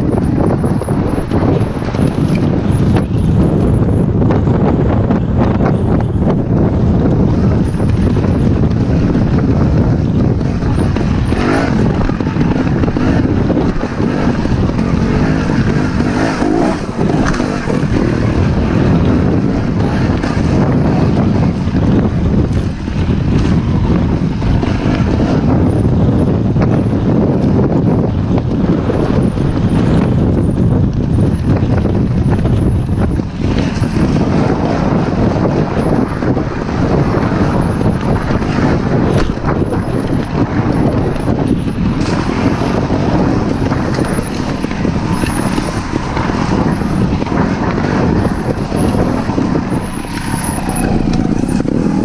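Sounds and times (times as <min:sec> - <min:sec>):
off-road motorcycle engine running: 0:00.0 - 0:52.0.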